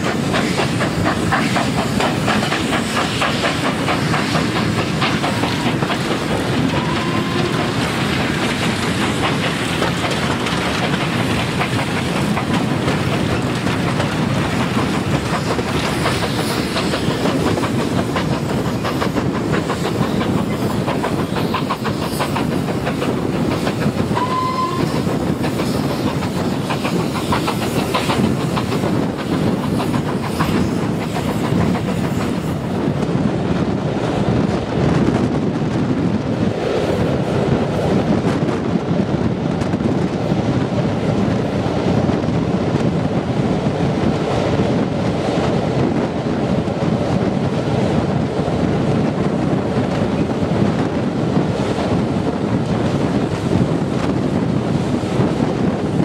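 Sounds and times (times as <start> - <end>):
steady train rumble: 0.0 - 56.0
train wheels clicking over rail joints: 0.0 - 56.0.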